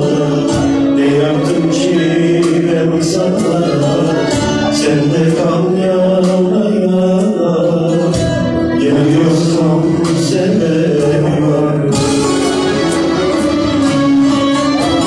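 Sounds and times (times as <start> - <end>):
amplified music with drums: 0.0 - 15.0
man singing into a microphone: 0.0 - 15.0.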